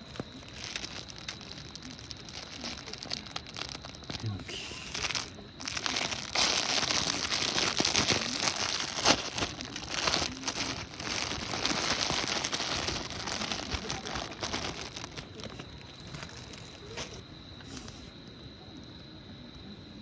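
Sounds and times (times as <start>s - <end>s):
crinkling and rustling: 0.0s - 18.0s.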